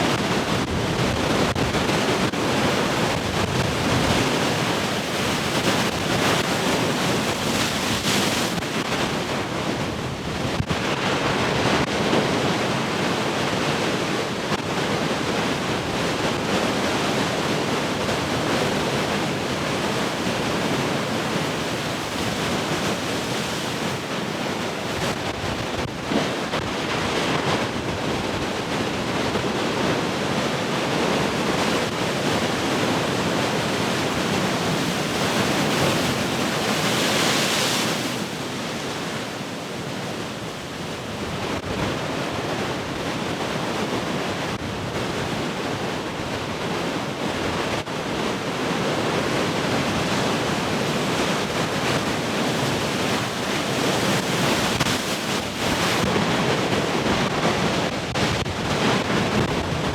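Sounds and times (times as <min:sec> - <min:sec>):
ocean surf breaking: 0:00.0 - 0:13.0, 0:15.2 - 0:59.9.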